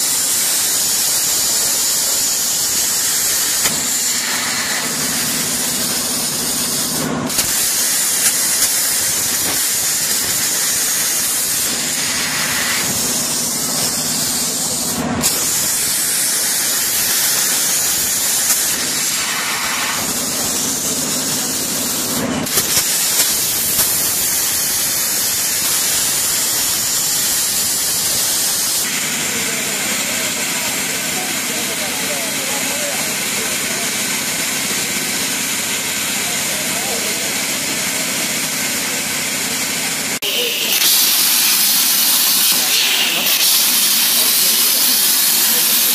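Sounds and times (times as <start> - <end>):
plasma cutter arc hissing: 0.0 - 45.9.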